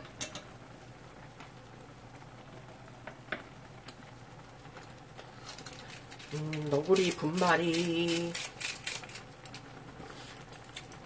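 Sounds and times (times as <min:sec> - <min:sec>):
pot bubbling: 0:00.0 - 0:11.0.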